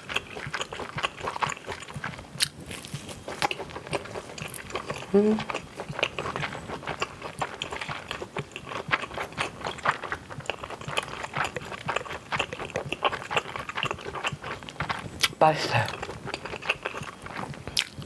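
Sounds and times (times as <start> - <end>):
wet chewing mouth clicks: 0.0 - 18.0.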